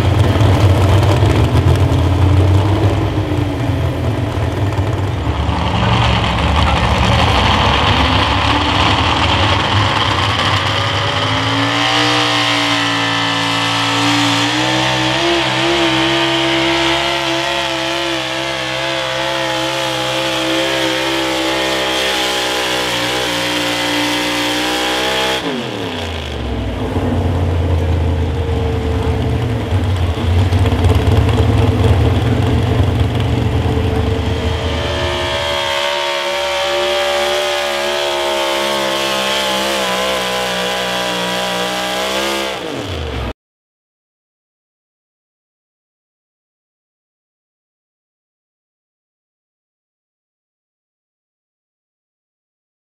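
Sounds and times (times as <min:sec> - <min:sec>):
truck engine running flat out: 0:00.0 - 0:43.3.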